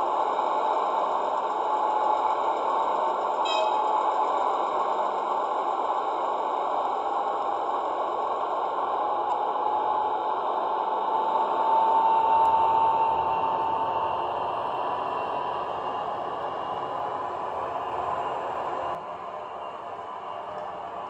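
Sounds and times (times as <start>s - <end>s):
model locomotive diesel engine idling: 0.0s - 21.0s.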